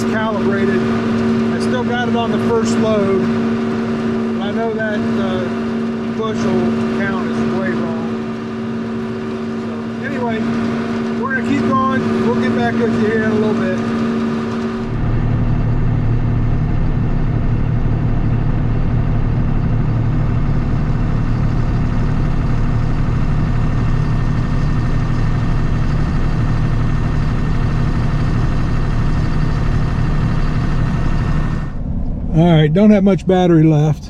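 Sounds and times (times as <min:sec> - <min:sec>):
combine harvester engine humming: 0:00.0 - 0:34.0.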